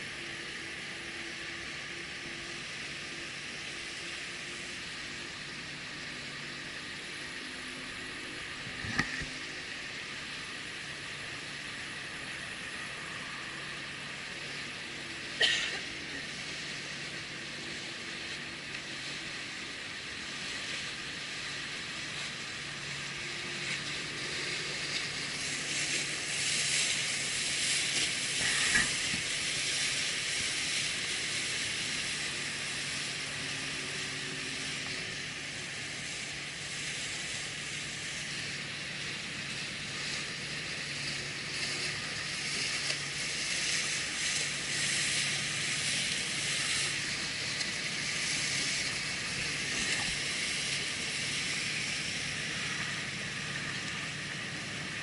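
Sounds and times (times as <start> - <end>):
choppy water hissing: 0.0 - 55.0
motorboat engines humming: 0.0 - 55.0
speedboat passing: 0.0 - 55.0
wind: 0.0 - 55.0.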